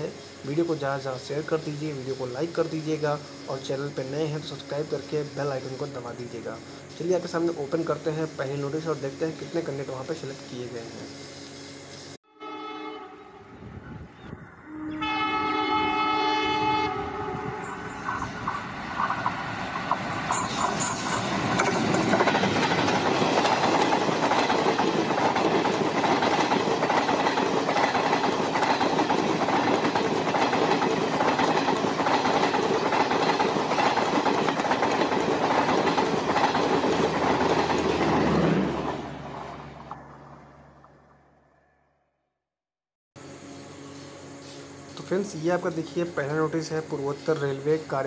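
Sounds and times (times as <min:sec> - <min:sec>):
train wheels rumbling on rails: 0:00.0 - 0:12.2, 0:15.8 - 0:41.2, 0:44.4 - 0:48.0.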